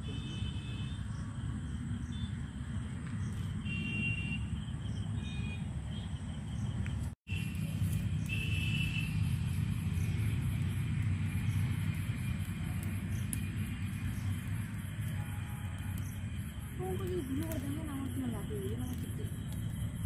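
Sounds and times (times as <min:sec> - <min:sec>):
low outdoor rumble: 0:00.0 - 0:20.0
insect chirps: 0:00.2 - 0:20.0.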